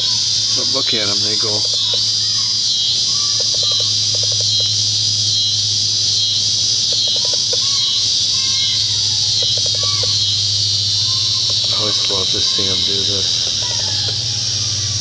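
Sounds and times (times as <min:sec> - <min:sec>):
insects droning: 0:00.0 - 0:15.0
low steady hum: 0:00.0 - 0:15.0.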